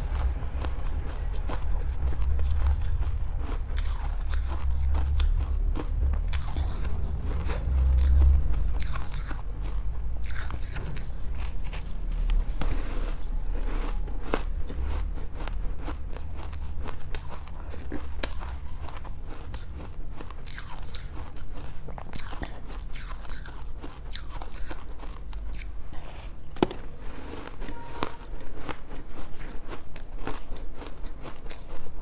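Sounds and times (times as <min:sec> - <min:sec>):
ice crunching between teeth: 0:00.0 - 0:26.4, 0:27.1 - 0:32.0
low rumble: 0:00.0 - 0:28.7.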